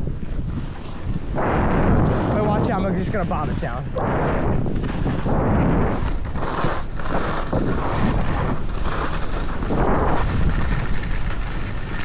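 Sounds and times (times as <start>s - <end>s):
wind rushing over microphone: 0.0s - 12.0s
ski edges hissing on snow: 0.4s - 12.0s.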